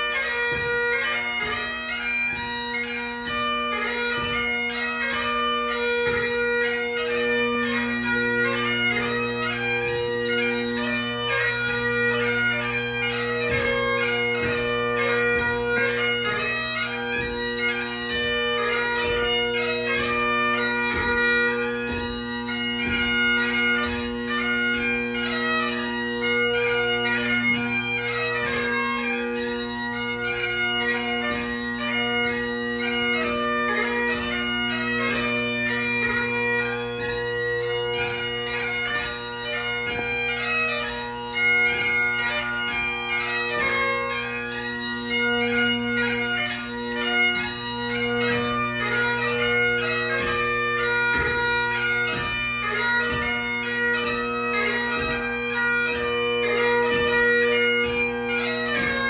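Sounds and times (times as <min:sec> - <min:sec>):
bagpipe chanter melody: 0:00.0 - 0:59.0
bagpipe drones: 0:00.0 - 0:59.0.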